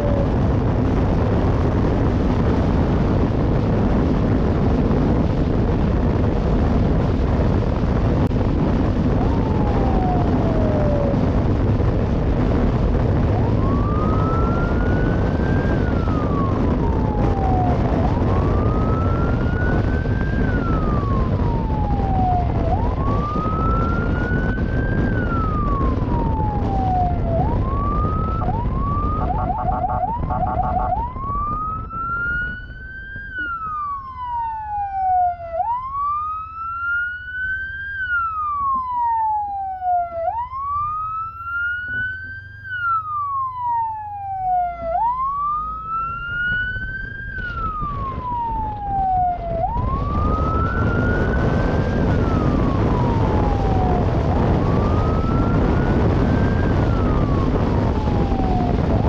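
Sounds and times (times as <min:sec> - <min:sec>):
police siren wailing: 0:00.0 - 0:07.6, 0:08.2 - 0:59.0
wind and road rumble: 0:00.0 - 0:59.0.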